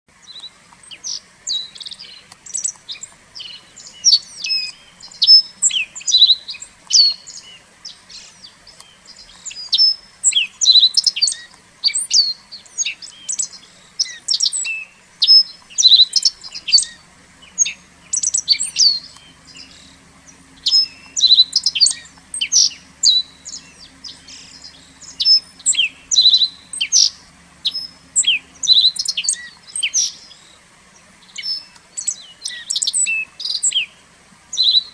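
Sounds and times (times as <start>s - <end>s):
small songbirds chirping: 0.1s - 34.9s
faint low hum: 0.2s - 34.9s.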